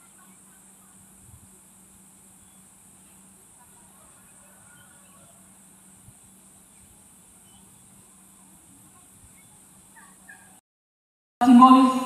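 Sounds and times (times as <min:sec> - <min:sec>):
faint chirps: 0:00.0 - 0:10.6.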